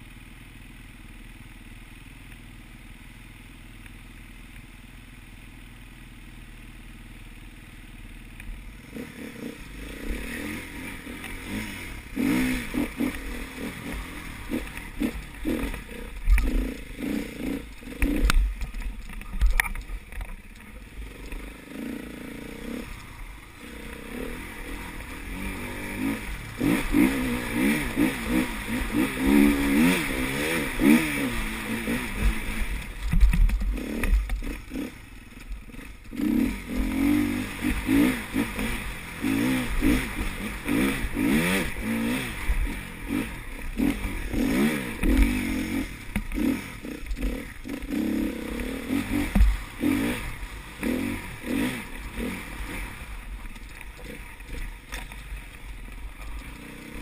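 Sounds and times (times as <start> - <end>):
motorcycle engine revving: 5.0 - 57.0.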